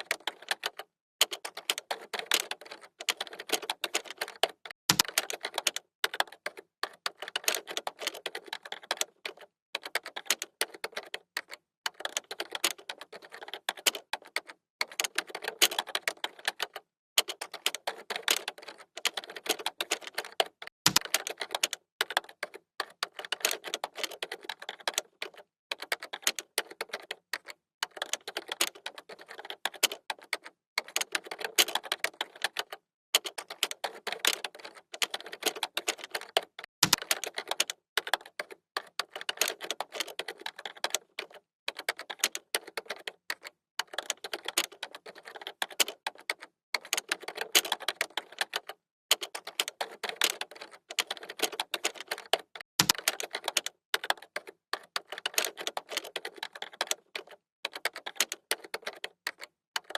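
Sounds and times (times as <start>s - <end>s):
keyboard typing: 0.0s - 59.9s.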